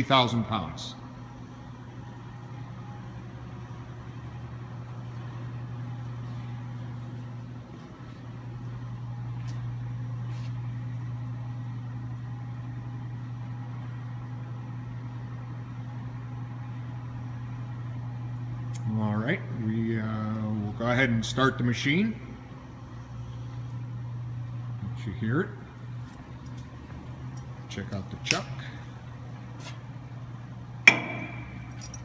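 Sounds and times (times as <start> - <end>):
shop machinery motor hum: 0.0 - 32.0.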